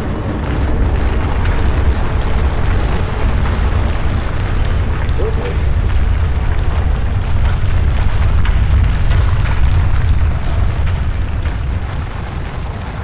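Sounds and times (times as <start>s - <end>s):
crackling noise: 0.0s - 13.0s
deep continuous rumble: 0.0s - 13.0s.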